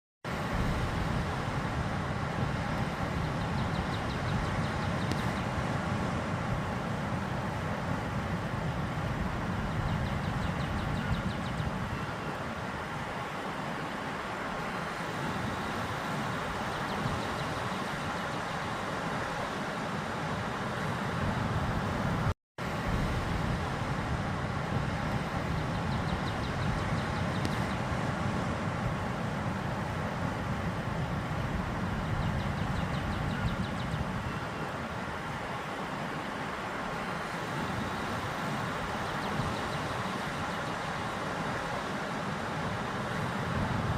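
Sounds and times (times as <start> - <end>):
ocean surf on a beach: 0.3 - 43.9.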